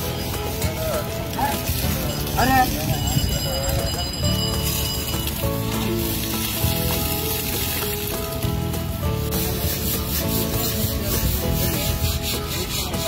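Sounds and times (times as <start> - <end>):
rhythmic scrubbing strokes: 0.0 - 13.0
soft background music: 0.0 - 13.0
water from hose hissing: 0.0 - 13.0.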